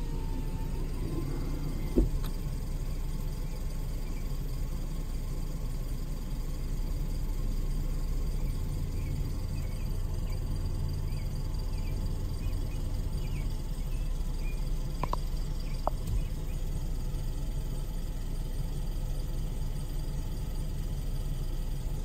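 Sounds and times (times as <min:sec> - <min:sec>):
low rumble of road noise: 0:00.0 - 0:22.0.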